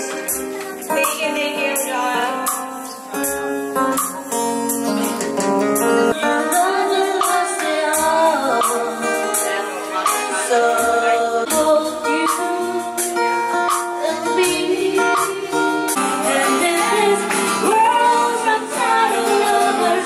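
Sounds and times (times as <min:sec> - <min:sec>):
person singing: 0:00.0 - 0:20.0
steady drum beat: 0:00.0 - 0:20.0
strummed guitar: 0:00.0 - 0:20.0.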